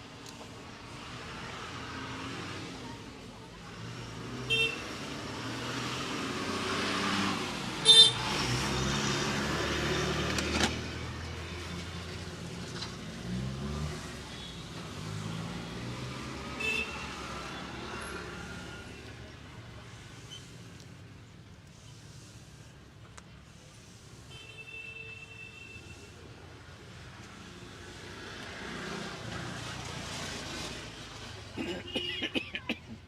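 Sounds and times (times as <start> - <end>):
engines passing: 0.0 - 24.1, 26.2 - 33.0.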